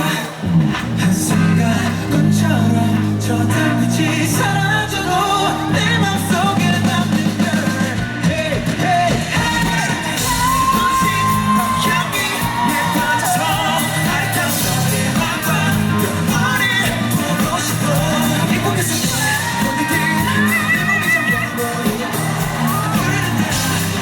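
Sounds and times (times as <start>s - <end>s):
crowd yelling along: 0.0s - 24.0s
live rock band with singing: 0.0s - 24.0s.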